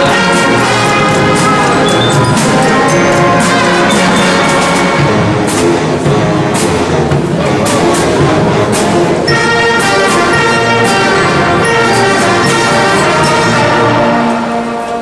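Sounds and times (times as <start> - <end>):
drum strikes: 0.0 - 14.7
brass band playing: 0.0 - 15.0.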